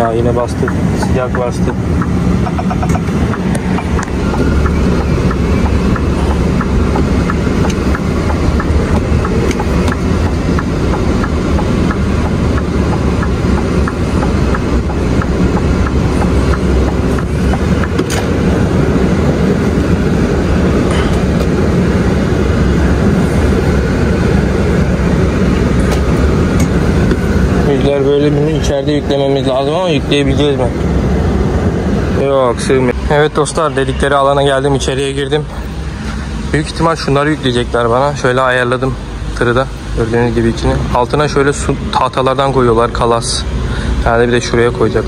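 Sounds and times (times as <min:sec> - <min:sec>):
air conditioning blowing: 0:00.0 - 0:45.0
truck engine running: 0:00.0 - 0:45.0.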